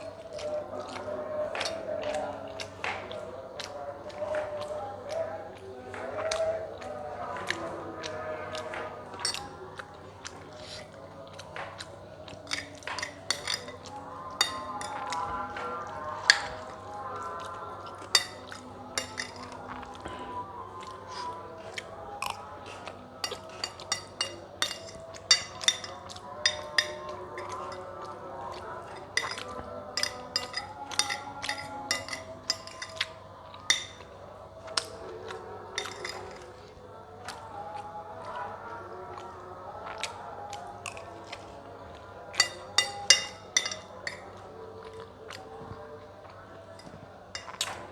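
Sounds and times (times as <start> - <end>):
chewing: 0.0 - 47.9
faint background music: 0.0 - 47.9
utensils clinking on a plate: 0.0 - 47.9.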